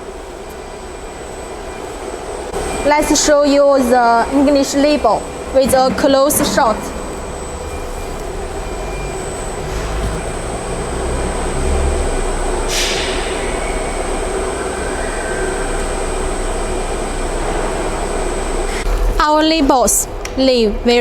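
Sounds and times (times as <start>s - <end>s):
thin high whine: 0.0s - 20.1s
low factory rumble: 0.0s - 21.0s.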